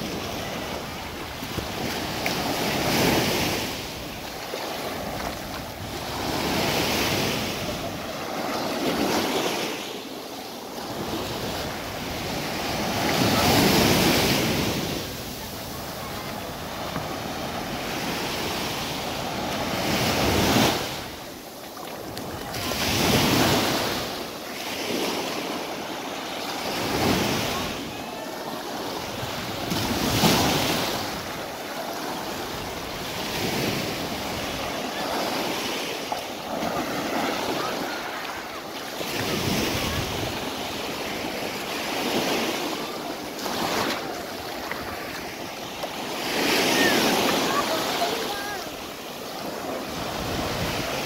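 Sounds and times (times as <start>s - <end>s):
waves breaking on beach: 0.0s - 51.0s.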